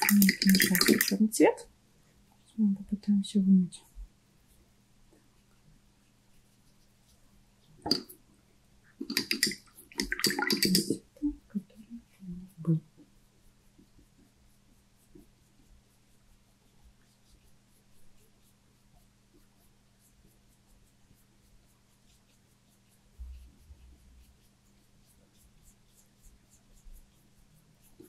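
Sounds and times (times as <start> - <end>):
paintbrush strokes on paper: 0.0 - 28.0.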